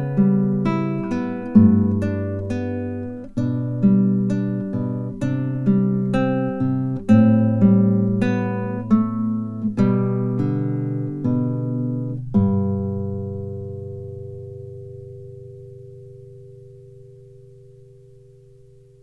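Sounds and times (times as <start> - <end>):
acoustic guitar instrumental: 0.0 - 19.0.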